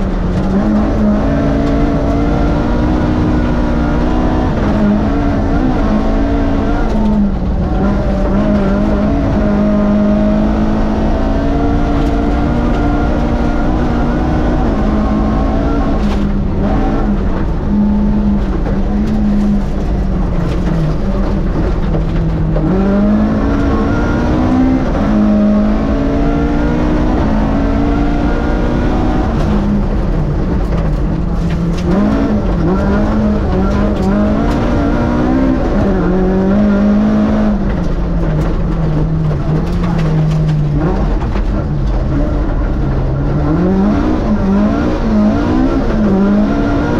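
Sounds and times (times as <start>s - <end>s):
race engine revving: 0.0s - 46.9s
road and tyre noise: 0.0s - 46.9s.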